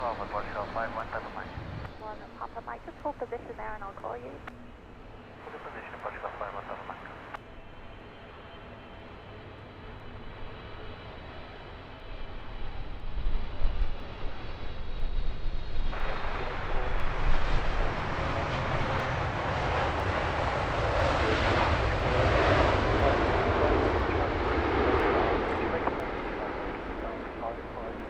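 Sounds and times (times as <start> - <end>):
jet airliner engines roaring: 0.0 - 28.0.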